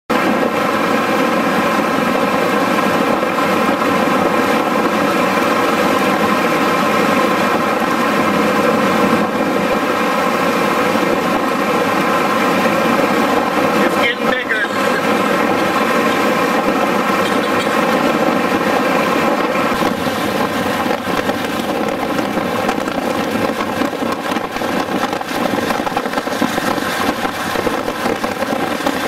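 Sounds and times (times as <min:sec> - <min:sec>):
vehicle engine and road noise: 0:00.1 - 0:29.0.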